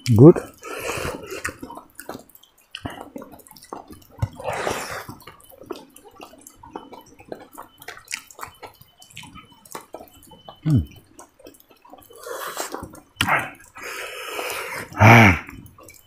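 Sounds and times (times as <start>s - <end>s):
person chewing and lip-smacking: 0.0s - 16.0s.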